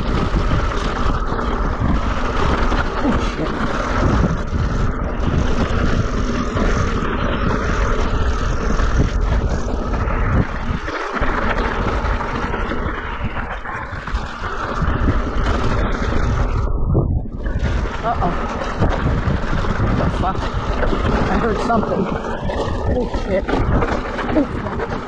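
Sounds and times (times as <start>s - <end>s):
bike tyres rattling over gravel: 0.0s - 25.0s
wind over microphone: 0.0s - 25.0s.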